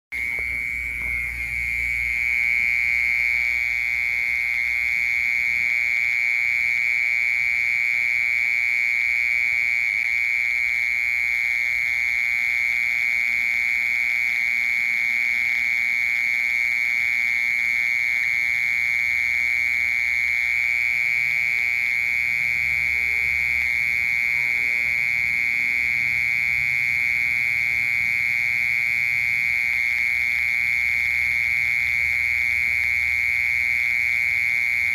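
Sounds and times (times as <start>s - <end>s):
mole cricket trilling: 0.2s - 34.9s.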